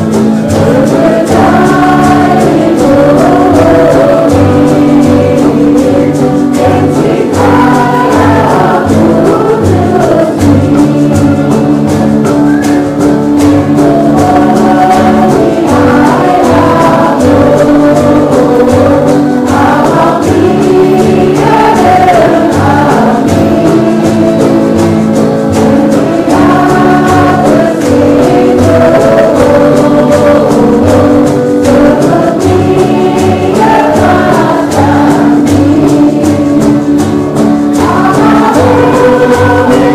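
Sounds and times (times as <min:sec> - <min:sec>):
gospel song with group singing: 0:00.0 - 0:39.9.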